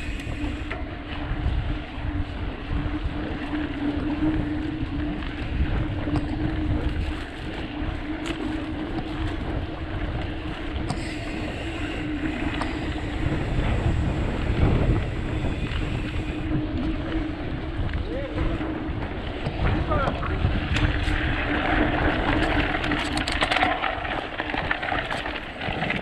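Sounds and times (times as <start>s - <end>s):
bike tyre rumble on dirt: 0.0s - 26.0s
steady hum: 0.0s - 26.0s
wind buffeting microphone: 0.0s - 26.0s.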